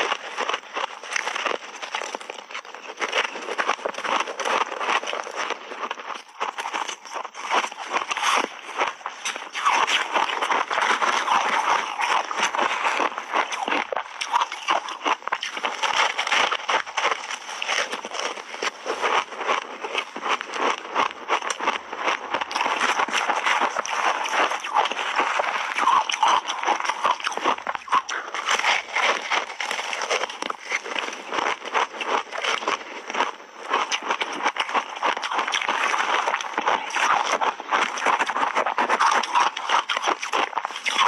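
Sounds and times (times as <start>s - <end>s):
crunching shaved ice: 0.0s - 41.0s.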